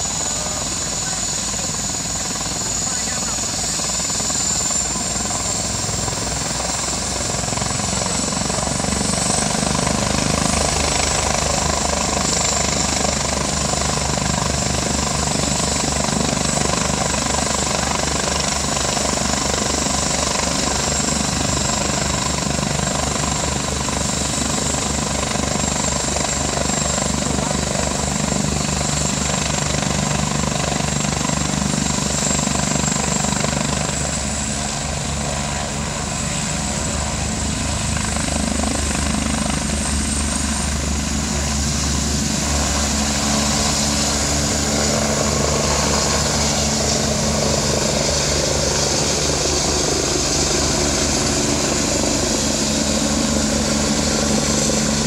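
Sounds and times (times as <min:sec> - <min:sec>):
helicopter rotor beating: 0:00.0 - 0:55.0
helicopter turbine whine: 0:00.0 - 0:55.0.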